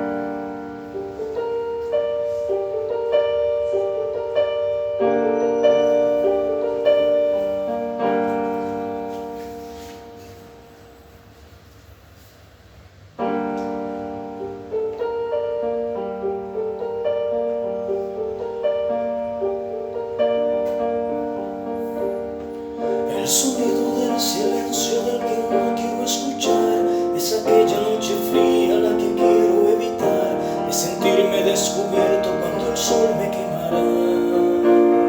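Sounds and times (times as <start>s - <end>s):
piano playing ballad chords: 0.0s - 11.4s, 13.2s - 35.0s.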